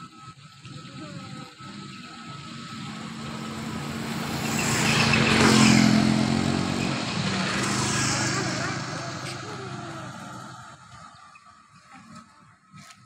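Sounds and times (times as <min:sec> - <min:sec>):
motor scooter passing by: 0:00.8 - 0:11.6.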